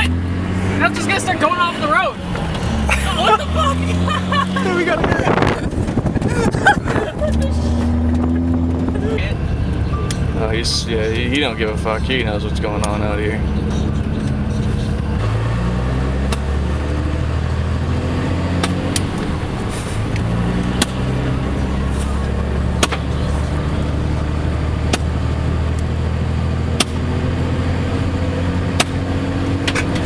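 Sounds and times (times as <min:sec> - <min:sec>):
road noise: 0:00.0 - 0:30.0
vehicle engine hum: 0:00.0 - 0:30.0.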